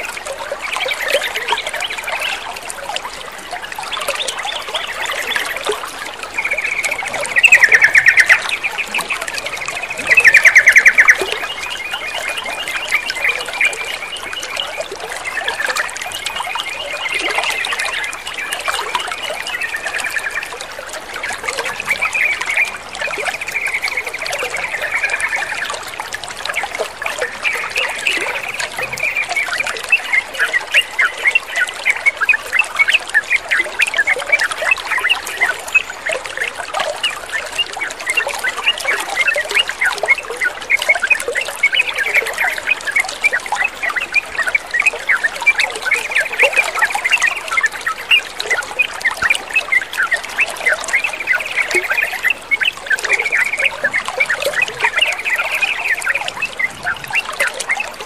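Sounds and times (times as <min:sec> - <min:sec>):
trickling water: 0:00.0 - 0:58.0
birds chattering and singing: 0:00.6 - 0:20.6, 0:26.5 - 0:36.2, 0:37.0 - 0:58.0.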